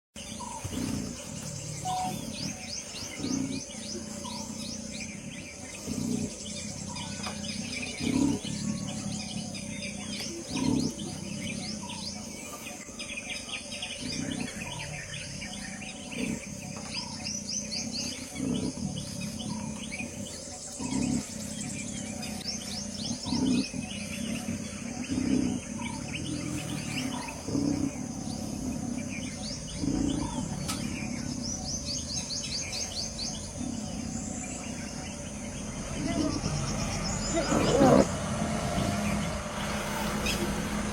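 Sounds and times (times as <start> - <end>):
big cat growling: 0.2 - 40.9
birds chirping and trilling: 0.2 - 40.9.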